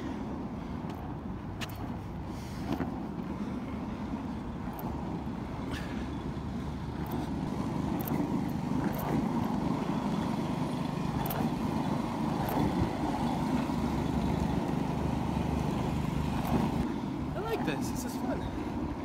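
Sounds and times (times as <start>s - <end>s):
skateboard wheels rolling on asphalt: 0.0s - 19.0s.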